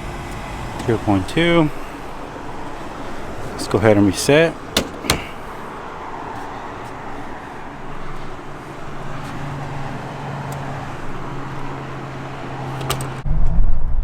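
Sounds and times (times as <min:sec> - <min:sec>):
hvac unit humming: 0:00.0 - 0:13.2.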